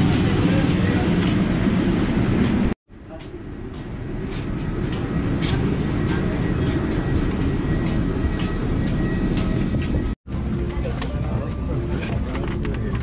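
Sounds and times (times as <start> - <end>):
vehicle rumbling in motion: 0.0 - 13.0.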